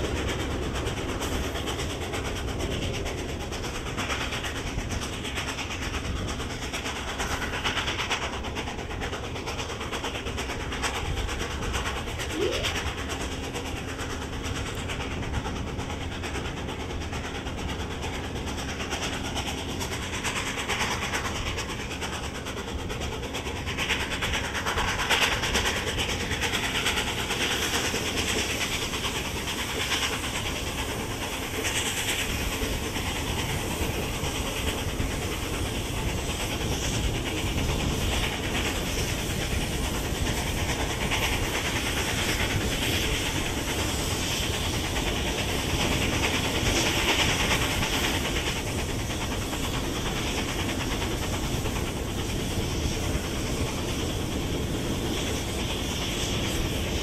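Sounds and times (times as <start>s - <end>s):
steam locomotive exhaust beat: 0.0s - 57.0s
train cars rumbling on rails: 0.0s - 57.0s.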